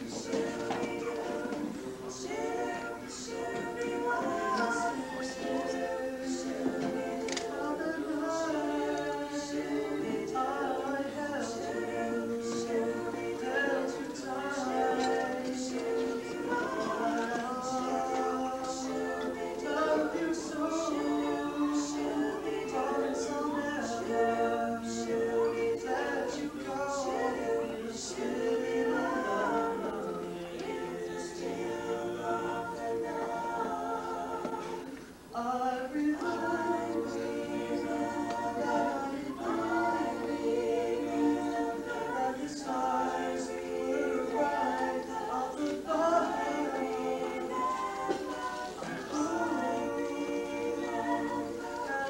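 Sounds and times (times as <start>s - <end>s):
a cappella group singing: 0.0s - 52.0s.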